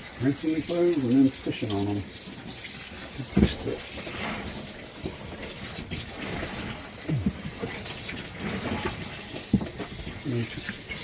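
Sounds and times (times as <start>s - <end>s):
water running from a hose: 0.0s - 11.0s.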